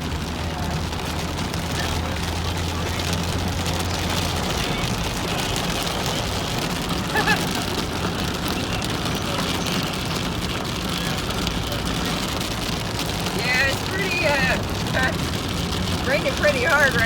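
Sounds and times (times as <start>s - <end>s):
heavy rain on a car: 0.0s - 17.0s
road and engine noise: 0.0s - 17.0s.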